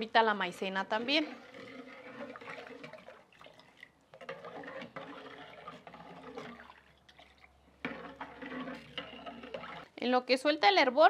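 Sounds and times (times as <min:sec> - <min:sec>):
milk pouring into pot: 0:00.9 - 0:10.0.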